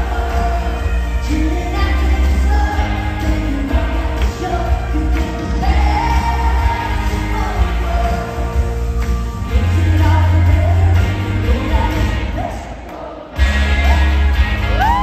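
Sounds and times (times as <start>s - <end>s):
full band playing: 0.0s - 15.0s.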